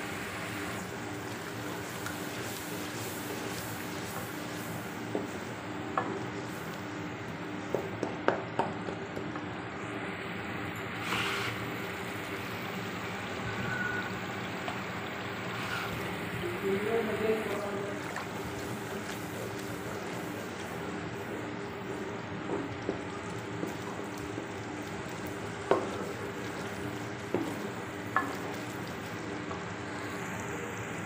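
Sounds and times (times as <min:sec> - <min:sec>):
spices sizzling in oil: 0:00.0 - 0:08.0, 0:09.8 - 0:31.0.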